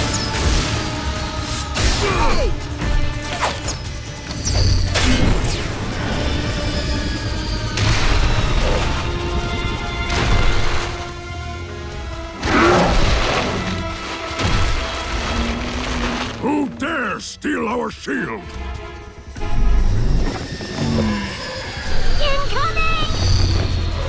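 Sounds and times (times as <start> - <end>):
dramatic orchestral score: 0.0 - 24.0.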